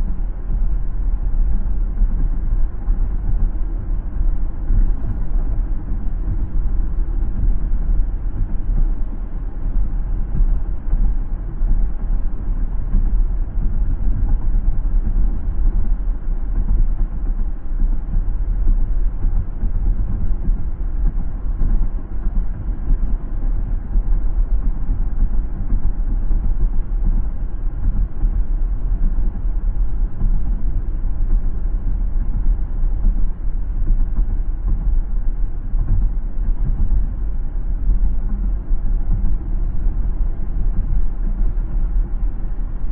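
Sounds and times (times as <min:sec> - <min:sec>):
car driving low rumble: 0:00.0 - 0:42.9.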